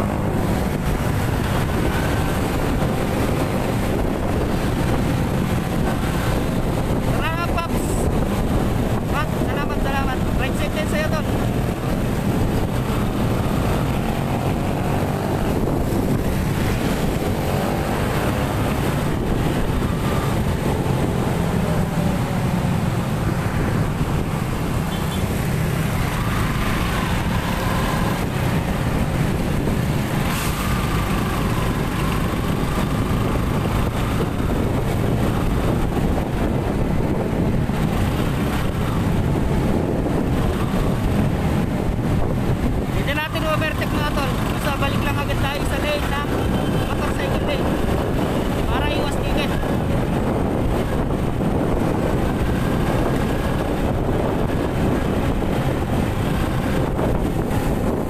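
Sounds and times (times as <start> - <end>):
road noise on wet road: 0.0 - 58.0
wind rush: 0.0 - 58.0.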